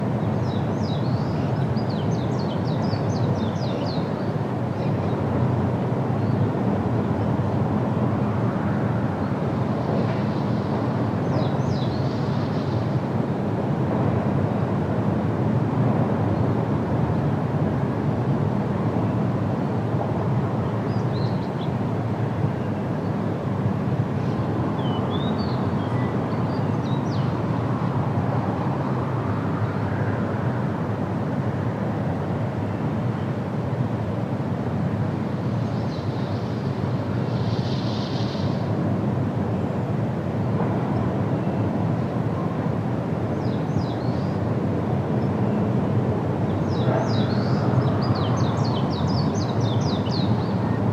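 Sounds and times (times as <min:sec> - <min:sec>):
low rushing background noise: 0:00.0 - 0:50.9.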